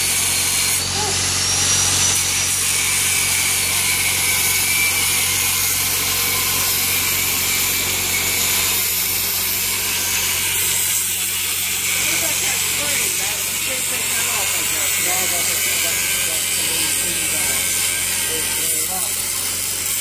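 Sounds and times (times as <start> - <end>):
angle grinder cutting metal: 0.0 - 20.0.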